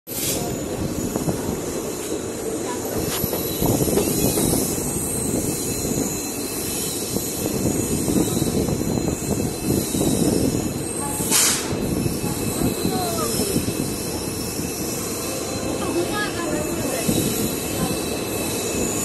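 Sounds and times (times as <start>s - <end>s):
train wheels rumbling on rails: 0.1s - 19.0s.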